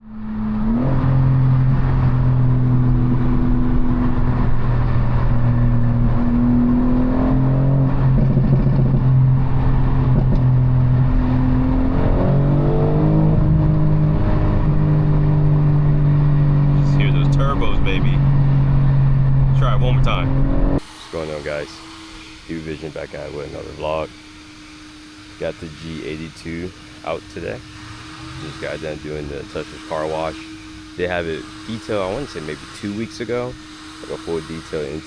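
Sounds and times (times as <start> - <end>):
car engine running under load: 0.0 - 35.0.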